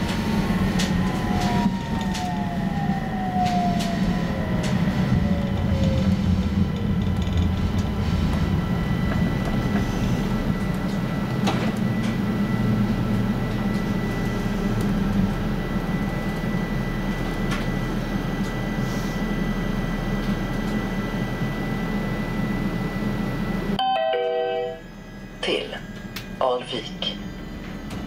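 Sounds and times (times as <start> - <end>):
tram electrical hum: 0.0 - 28.0
faint whine tones: 0.6 - 28.0.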